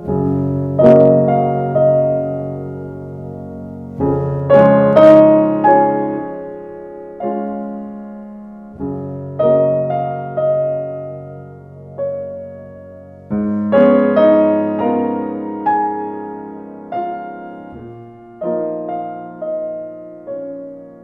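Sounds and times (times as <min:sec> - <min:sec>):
slow solo piano chords: 0:00.0 - 0:21.0.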